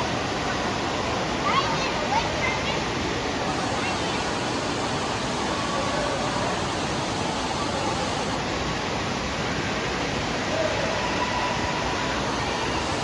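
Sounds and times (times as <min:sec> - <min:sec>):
faint distant voices: 0:00.0 - 0:13.0
rushing water: 0:00.0 - 0:13.0.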